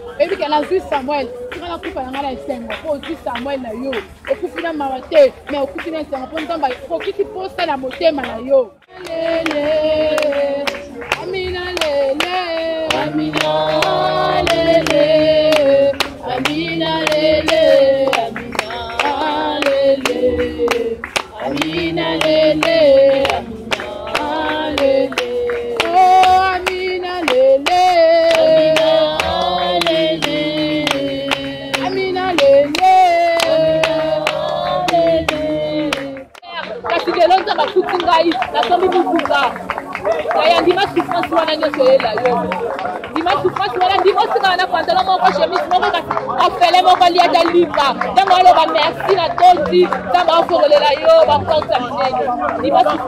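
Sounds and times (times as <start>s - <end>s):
woman singing: 0.0s - 39.6s, 40.3s - 42.5s, 43.1s - 53.0s
hand clapping: 0.0s - 53.0s.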